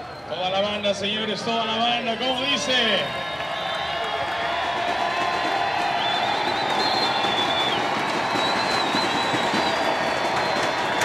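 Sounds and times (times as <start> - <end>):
stadium crowd cheering: 0.0 - 11.0.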